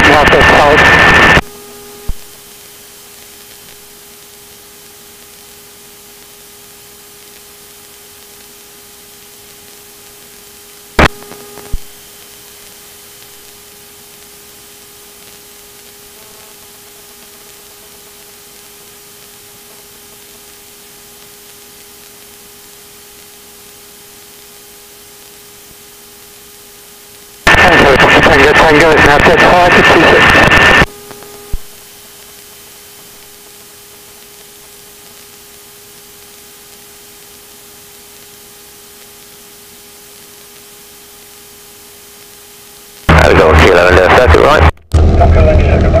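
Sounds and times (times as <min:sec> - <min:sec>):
faint hum: 0:00.0 - 0:46.0
electrical hiss: 0:06.2 - 0:44.7.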